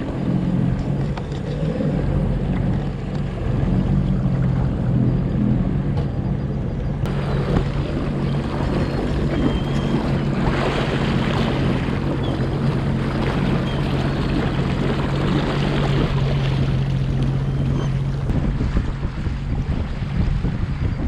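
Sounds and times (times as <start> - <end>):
water rushing and splashing: 0.0 - 6.2, 6.9 - 21.0
jet ski engine running: 0.0 - 21.0.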